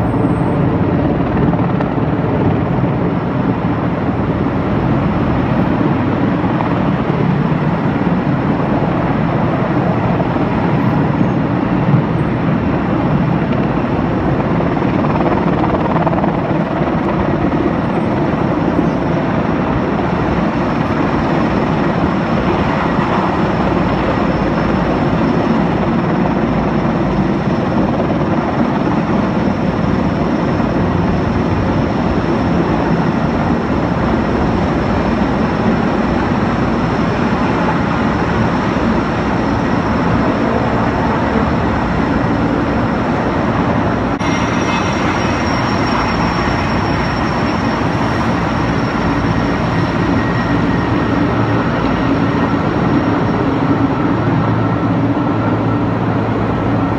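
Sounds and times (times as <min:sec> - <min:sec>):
helicopter rotor and turbine noise: 0:00.0 - 0:56.9.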